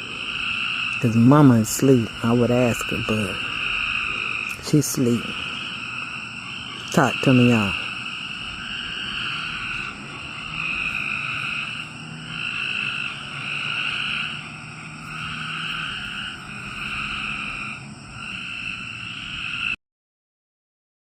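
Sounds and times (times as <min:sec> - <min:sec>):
chorus of frogs: 0:00.0 - 0:19.8.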